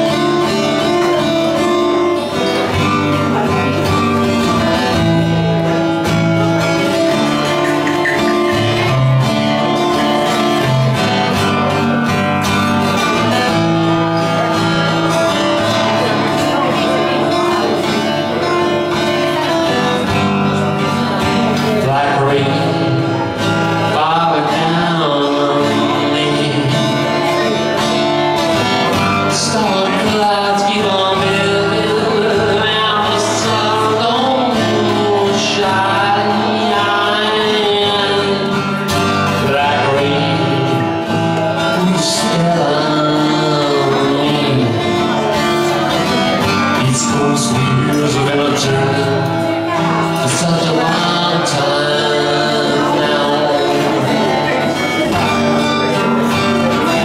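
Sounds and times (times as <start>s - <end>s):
acoustic guitar playing: 0.0s - 57.0s
man singing: 0.0s - 57.0s.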